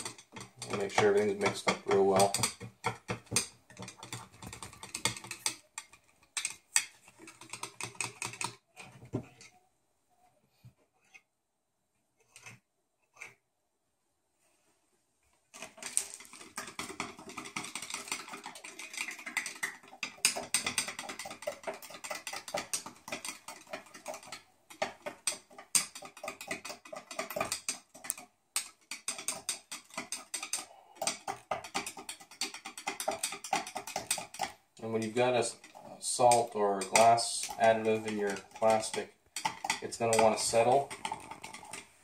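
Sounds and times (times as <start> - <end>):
stirrer clicking and scraping in glass cup: 0.0 - 9.5, 15.5 - 42.0.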